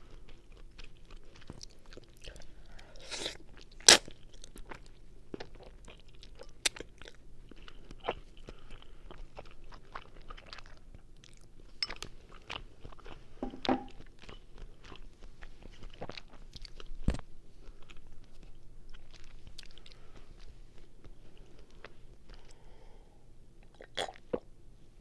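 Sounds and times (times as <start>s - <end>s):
wet chewing and mouth clicks: 0.0s - 13.2s, 13.9s - 22.6s.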